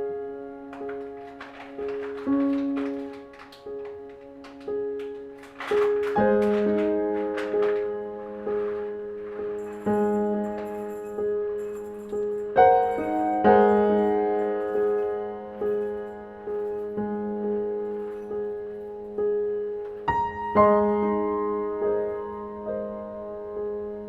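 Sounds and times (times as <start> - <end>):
slow solo piano music: 0.0 - 24.0.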